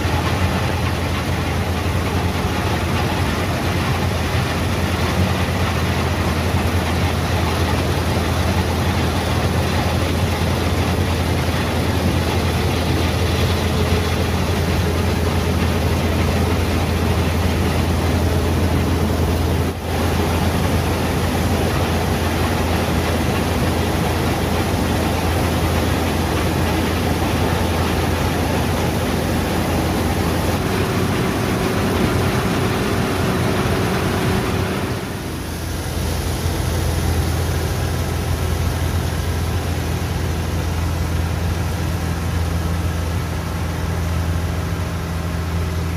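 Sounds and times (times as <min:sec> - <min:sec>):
machinery rushing noise: 0:00.0 - 0:44.0
combine harvester engine drone: 0:00.0 - 0:45.9.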